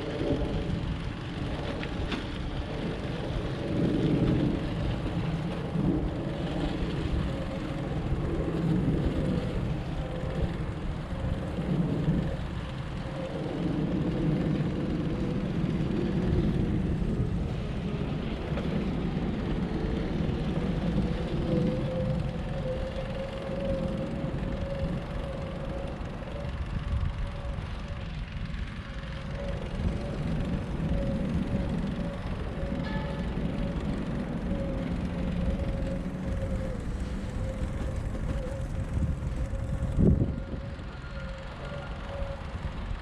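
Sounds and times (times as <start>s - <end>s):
distant traffic rumble: 0.0s - 43.0s
faint humming tone: 0.0s - 43.0s.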